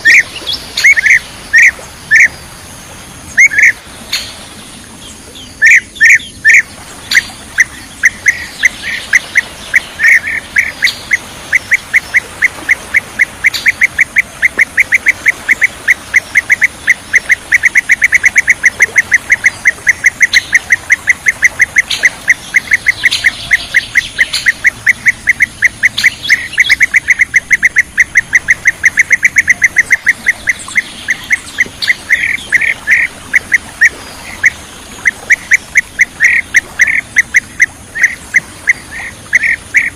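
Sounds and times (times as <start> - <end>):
bird calls rapid series: 0.0 - 39.9.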